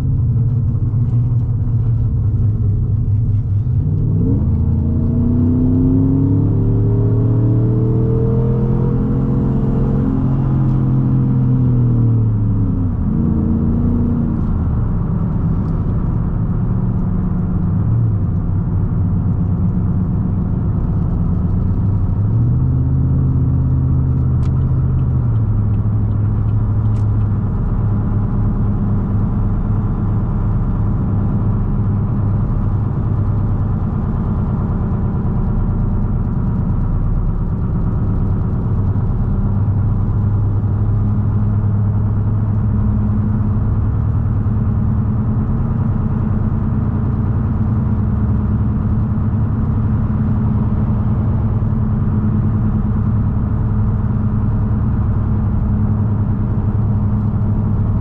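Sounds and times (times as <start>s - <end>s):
tires humming on road: 0.0s - 58.0s
truck engine droning: 0.0s - 58.0s.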